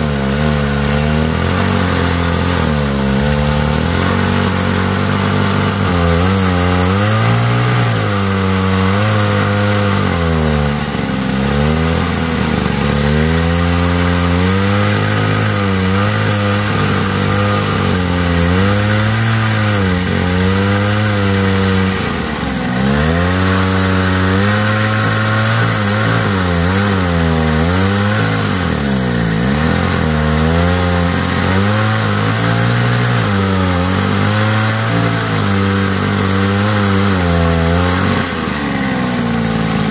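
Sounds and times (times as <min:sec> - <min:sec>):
model excavator hydraulic pump: 0:00.0 - 0:39.9.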